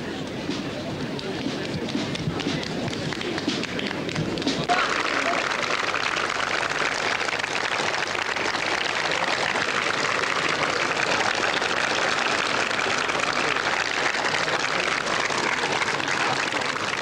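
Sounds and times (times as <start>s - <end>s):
crowd applauding: 1.8s - 17.0s.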